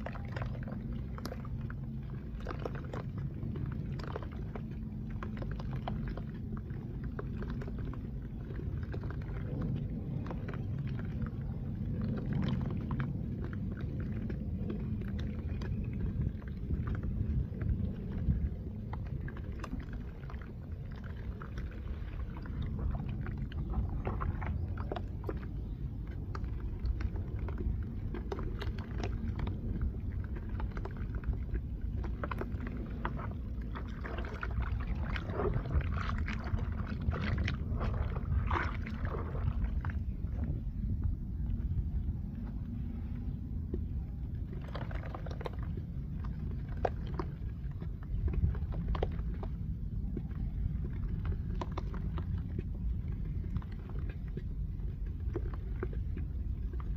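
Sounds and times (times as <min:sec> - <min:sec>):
constant low rumble: 0:00.0 - 0:56.9
dry clay crunching and crackling: 0:00.0 - 0:56.9.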